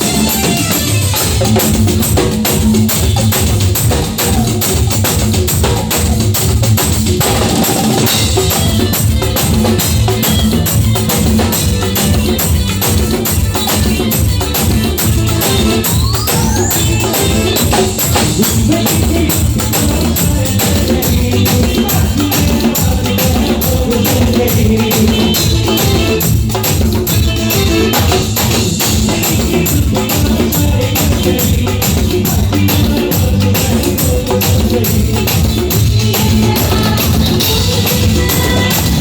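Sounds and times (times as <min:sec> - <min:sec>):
live band drums and percussion: 0:00.0 - 0:39.0.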